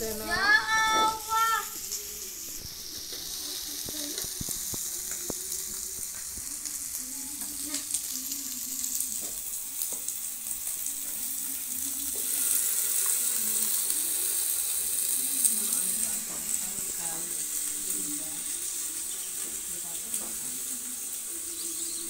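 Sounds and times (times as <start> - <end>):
meat sizzling on grill pan: 0.0 - 22.0.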